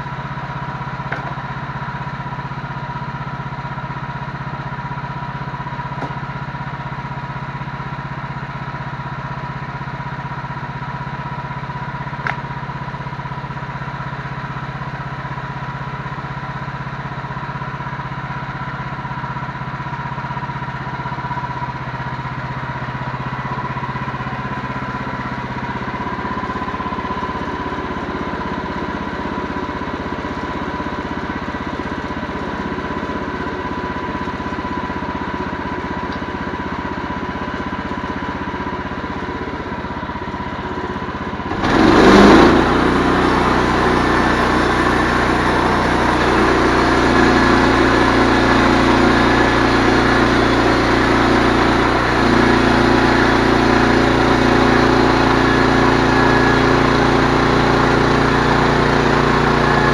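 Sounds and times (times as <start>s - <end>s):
engine running with thin whine: 0.0s - 59.9s.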